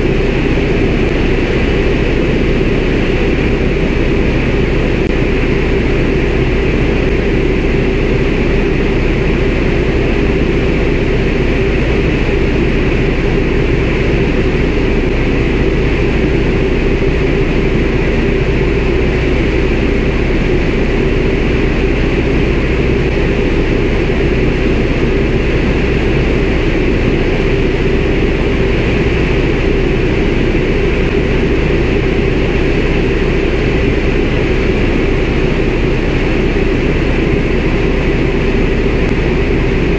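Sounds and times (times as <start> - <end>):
radial engine and propeller droning: 0.0 - 39.9.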